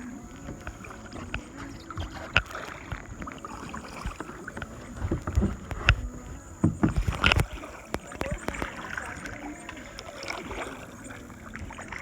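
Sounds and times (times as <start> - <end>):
paddle strokes in water: 0.0 - 12.0.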